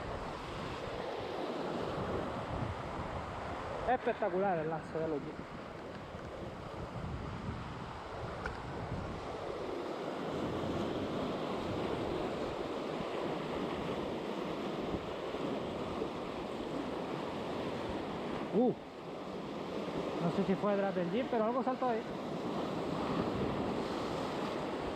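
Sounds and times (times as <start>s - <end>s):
wind on microphone: 0.0s - 18.6s, 21.9s - 24.9s
sea surf washing against rocks: 0.0s - 24.9s.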